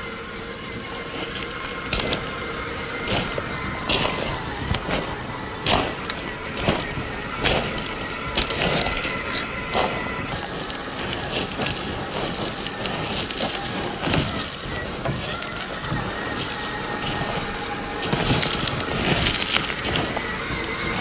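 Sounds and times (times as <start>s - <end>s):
electric motor whine: 0.0s - 21.0s
stones clicking under tyres: 0.0s - 21.0s
stones crunching under tyres: 0.0s - 21.0s.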